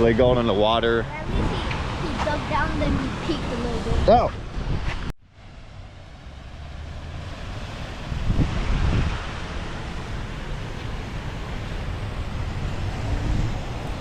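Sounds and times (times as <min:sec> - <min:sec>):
wind buffeting microphone: 0:00.0 - 0:05.1, 0:07.4 - 0:14.0.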